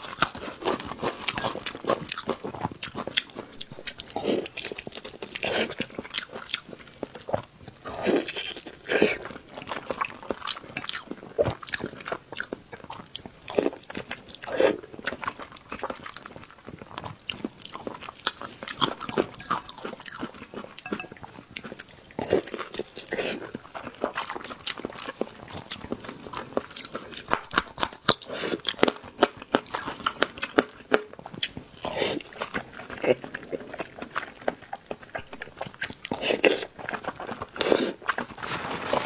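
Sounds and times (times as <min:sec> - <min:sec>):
person chewing meat: 0:00.0 - 0:38.4.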